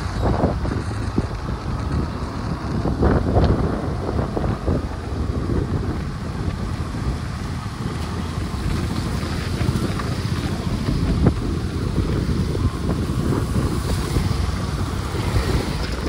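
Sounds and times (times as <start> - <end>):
motorcycle engine rumble: 0.0 - 16.0
tyres hissing on wet road: 0.0 - 16.0
wind noise on microphone: 0.0 - 16.0.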